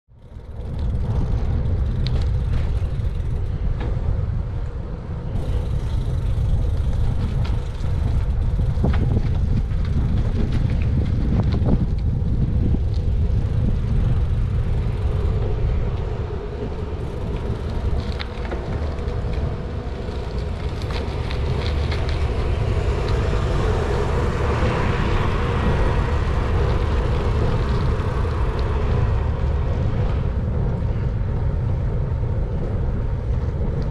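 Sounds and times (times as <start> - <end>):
bicycle clicks and rattles: 0.1 - 31.1
tyres rolling on asphalt: 0.1 - 33.9
wind over camera: 0.1 - 33.9.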